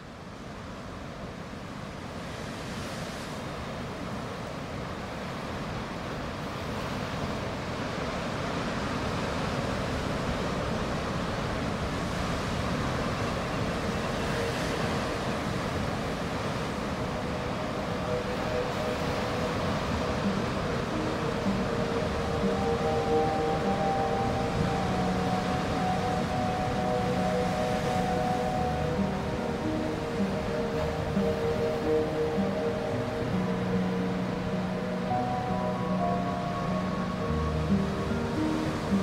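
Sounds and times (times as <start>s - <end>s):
ocean surf rushing: 2.2s - 39.0s.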